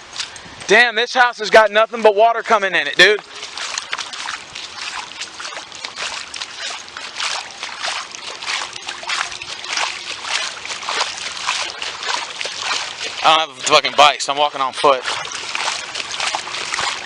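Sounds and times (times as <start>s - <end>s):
floodwater splashing: 0.0s - 17.0s.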